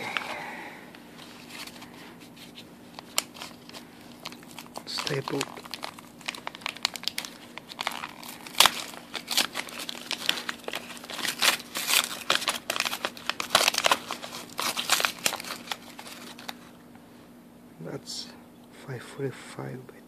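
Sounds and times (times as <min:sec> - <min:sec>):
paper crinkling and tearing: 0:00.0 - 0:16.8.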